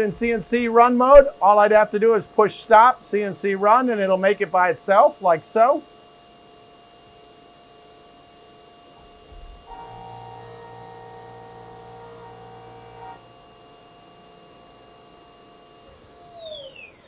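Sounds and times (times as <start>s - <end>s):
low machine hum: 0.0s - 17.0s
milling spindle high-pitched whine: 0.0s - 17.0s.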